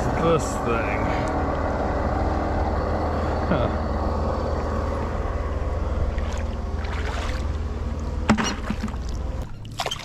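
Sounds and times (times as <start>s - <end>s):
engine idling: 0.0s - 9.4s.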